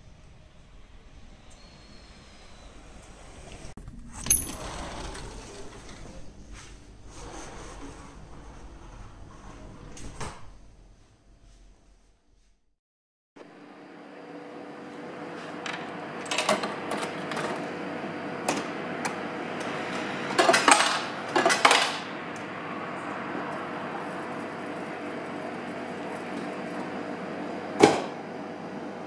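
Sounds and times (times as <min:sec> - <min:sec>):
vending machine humming: 0:00.0 - 0:12.0, 0:13.4 - 0:29.0.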